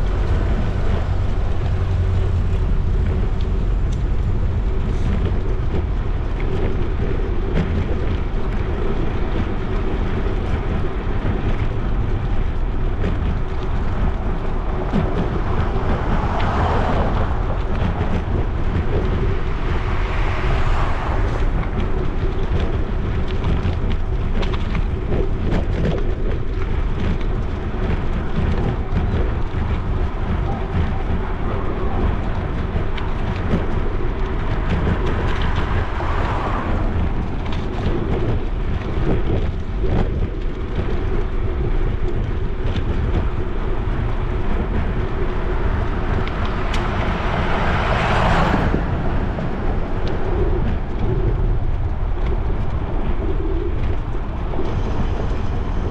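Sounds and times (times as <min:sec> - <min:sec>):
bicycle ticks and rattles: 0:00.0 - 0:55.9
wind rumbling on microphone: 0:00.0 - 0:55.9.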